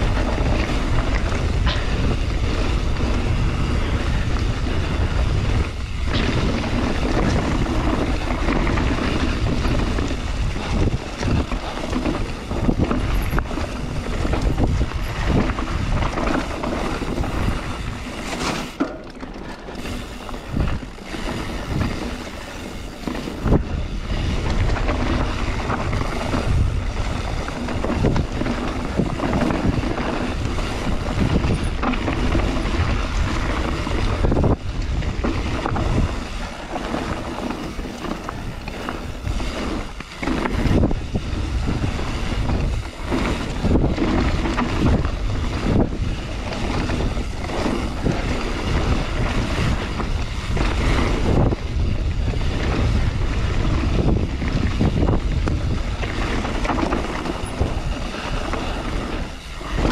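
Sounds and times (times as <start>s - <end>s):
bike jolting and rattling: 0.0s - 59.9s
tyres rumbling on dirt: 0.0s - 59.9s
wind buffeting microphone: 0.0s - 59.9s.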